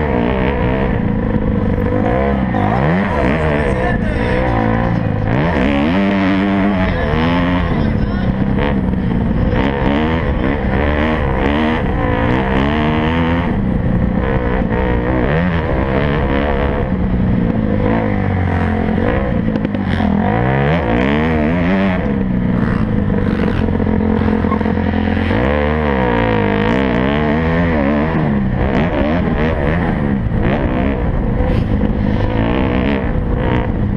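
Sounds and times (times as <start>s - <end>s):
motocross bike engines revving: 0.0s - 33.9s.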